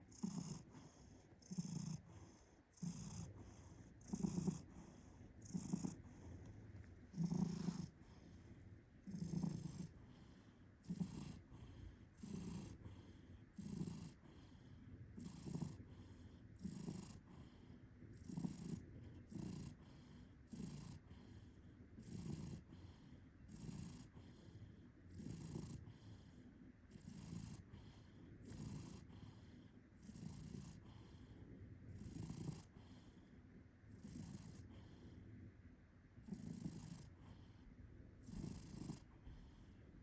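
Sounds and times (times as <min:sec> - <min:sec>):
cat snoring and purring: 0:00.0 - 0:40.0.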